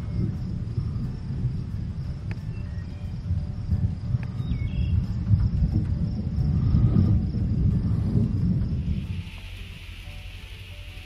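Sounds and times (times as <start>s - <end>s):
crickets chirping: 0.0s - 11.0s
distant thunder rumbling: 0.0s - 11.0s.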